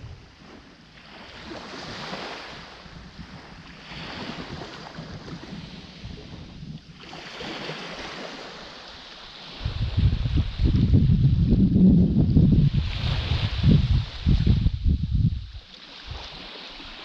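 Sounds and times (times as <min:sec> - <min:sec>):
small waves washing on beach: 0:00.0 - 0:17.0.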